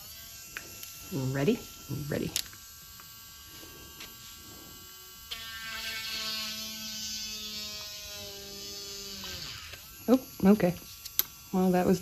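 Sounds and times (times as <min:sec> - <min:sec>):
nail drill motor whining: 0:00.0 - 0:12.0.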